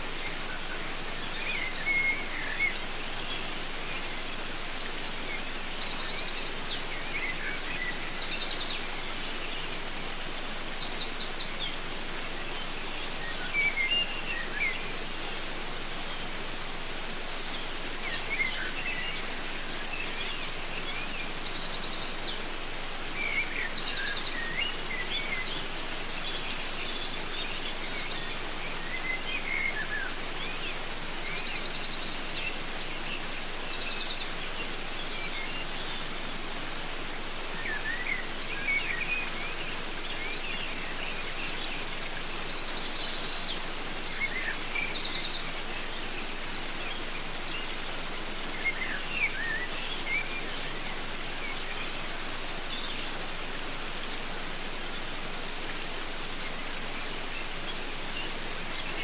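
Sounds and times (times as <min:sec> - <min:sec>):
birds chirping and trilling: 0:00.0 - 0:59.0
waterfall rushing: 0:00.0 - 0:59.0.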